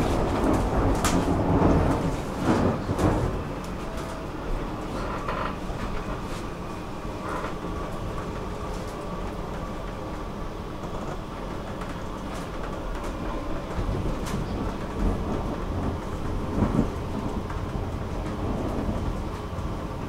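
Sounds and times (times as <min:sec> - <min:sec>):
metro train rumbling on rails: 0:00.0 - 0:20.0.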